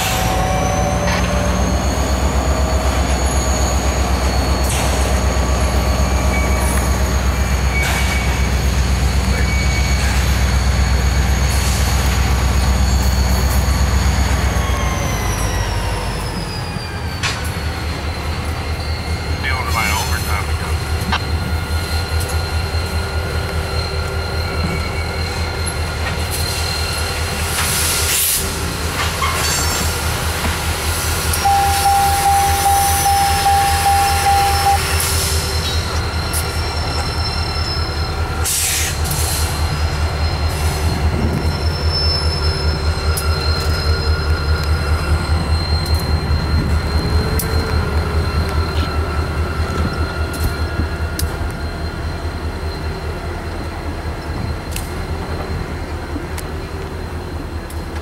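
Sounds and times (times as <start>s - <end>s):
train wheel squeal: 0.0s - 58.0s
train wheels rumbling on rails: 0.0s - 58.0s.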